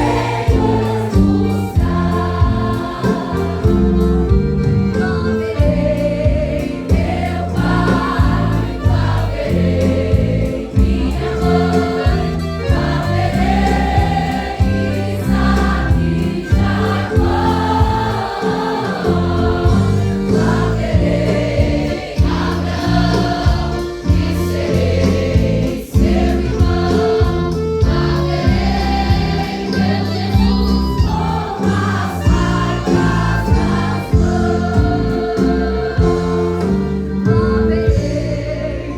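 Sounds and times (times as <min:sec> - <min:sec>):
choir singing gospel song: 0:00.0 - 0:38.9
instrumental backing with beat: 0:00.0 - 0:38.9.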